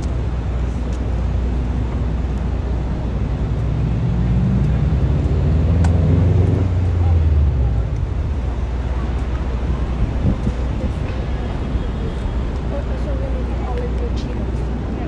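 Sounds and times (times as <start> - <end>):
city traffic rumbling: 0.0 - 15.0
heavy vehicle engine drone: 0.0 - 15.0.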